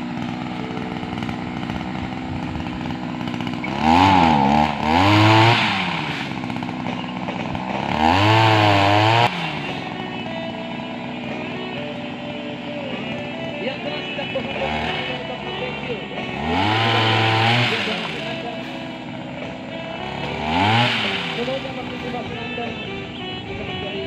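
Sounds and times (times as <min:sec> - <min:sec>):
chainsaw idling and revving: 0:00.0 - 0:24.0.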